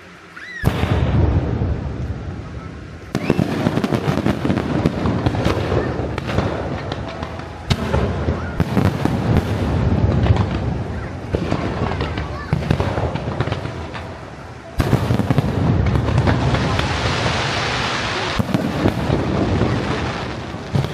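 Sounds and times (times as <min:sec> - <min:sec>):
fireworks bursting and crackling: 0:00.0 - 0:20.9.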